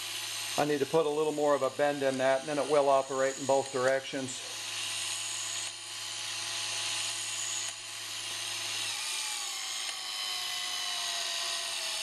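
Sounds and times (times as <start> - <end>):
electric gear motor whining: 0.0 - 12.0.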